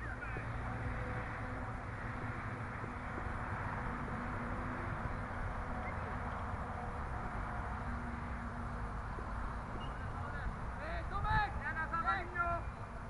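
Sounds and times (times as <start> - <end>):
distant calls of footballers: 0.0 - 13.0.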